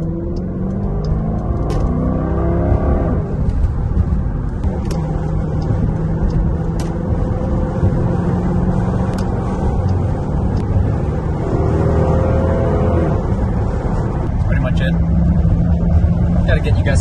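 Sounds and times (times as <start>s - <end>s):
car engine cruising: 0.0s - 17.0s
tyre and road noise: 0.0s - 17.0s.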